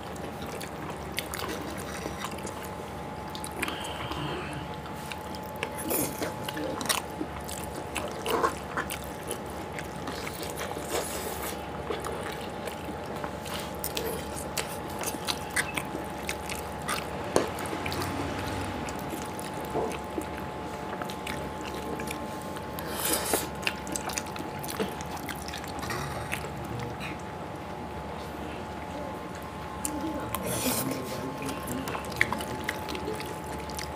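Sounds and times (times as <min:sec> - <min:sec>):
noodles slurped and chewed: 0:00.0 - 0:27.4, 0:29.8 - 0:33.9
steady hum: 0:00.0 - 0:33.9.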